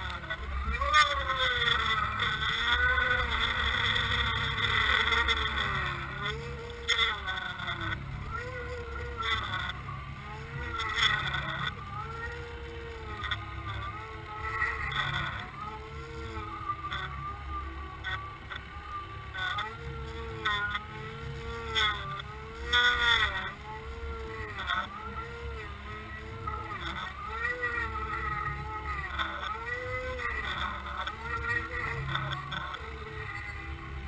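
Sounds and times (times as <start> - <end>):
boat motor droning underwater: 0.0 - 34.0.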